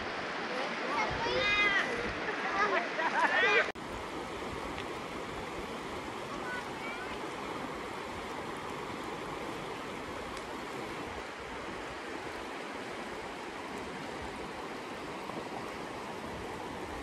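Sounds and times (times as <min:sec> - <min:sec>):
river water rushing over pebbles: 0:00.0 - 0:17.0.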